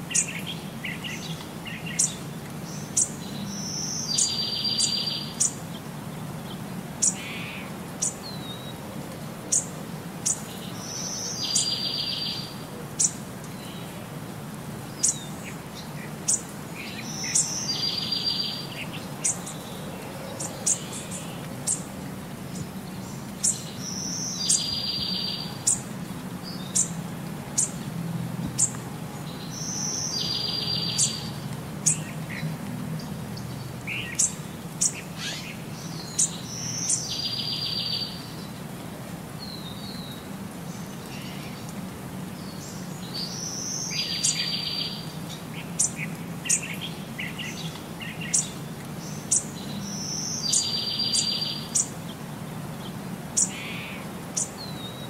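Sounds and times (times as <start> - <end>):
birds chirping: 0.1 - 8.8, 9.5 - 14.2, 14.8 - 27.9, 28.5 - 38.7, 39.4 - 55.0.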